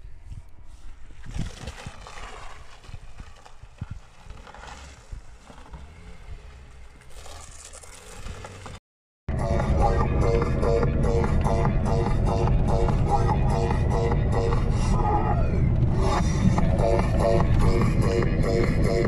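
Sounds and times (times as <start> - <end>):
car engine running at low revs: 2.0 - 19.0.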